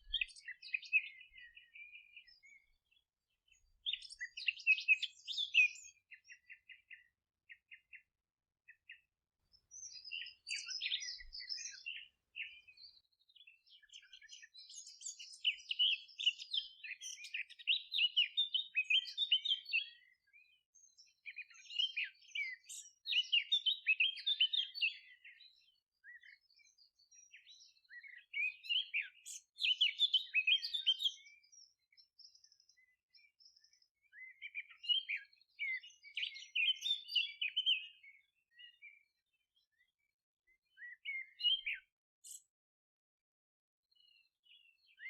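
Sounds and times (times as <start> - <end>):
songbirds singing: 0.0 - 45.0.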